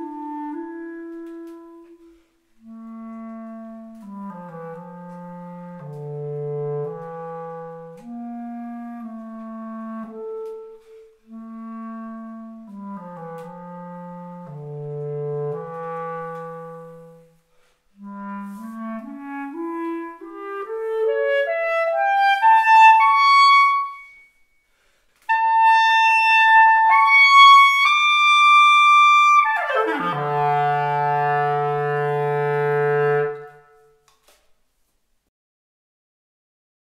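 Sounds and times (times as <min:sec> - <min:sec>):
solo clarinet playing: 0:00.0 - 0:34.1.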